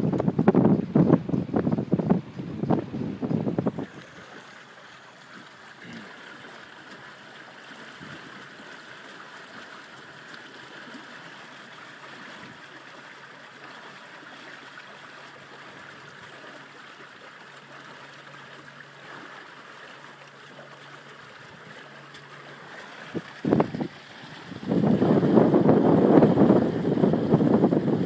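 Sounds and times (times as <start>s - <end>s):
water rushing along hull: 0.0s - 28.0s.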